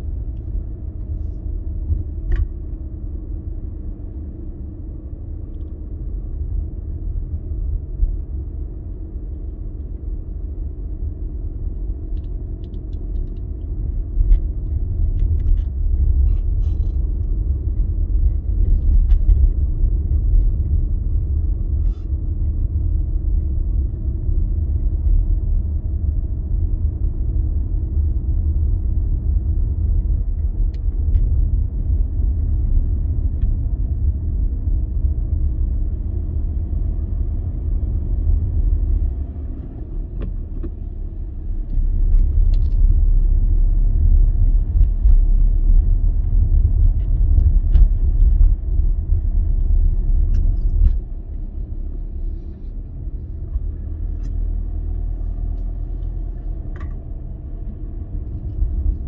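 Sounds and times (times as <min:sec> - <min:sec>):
vehicle engine and tyre rumble: 0:00.0 - 0:59.0.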